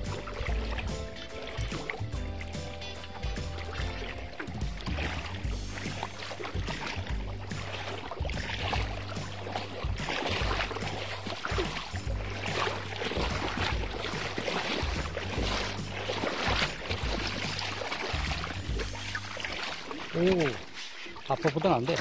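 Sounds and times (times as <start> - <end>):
stream water swishing and splashing: 0.0 - 22.0.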